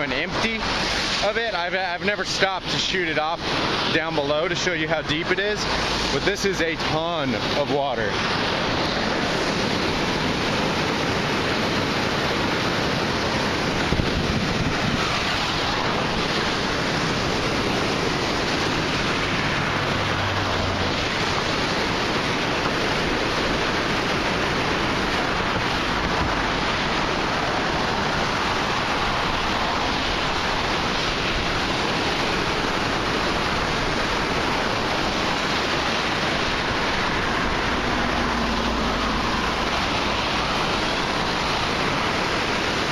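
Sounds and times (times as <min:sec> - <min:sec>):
floodwater rushing through channel: 0:00.0 - 0:42.9.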